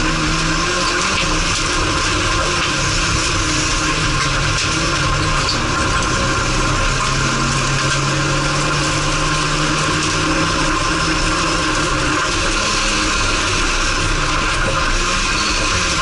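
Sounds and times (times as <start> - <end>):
race car engine running hard: 0.0 - 16.0
tyre and dirt noise: 0.0 - 16.0.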